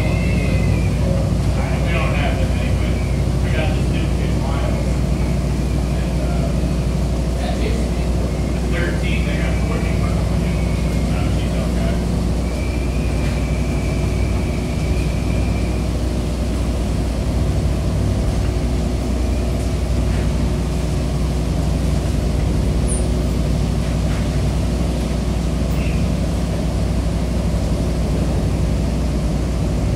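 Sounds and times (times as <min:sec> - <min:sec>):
ferry engines droning: 0:00.0 - 0:29.9.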